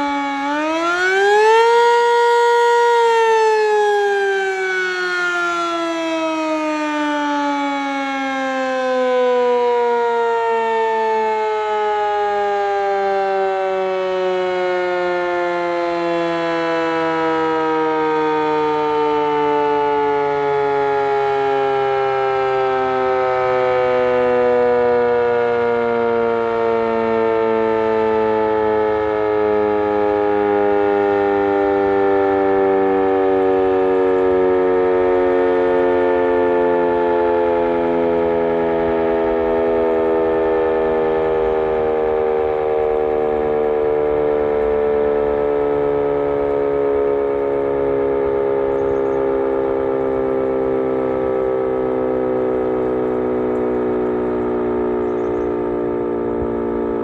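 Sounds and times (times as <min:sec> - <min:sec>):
dual-tone siren sliding lower: 0:00.0 - 0:57.0.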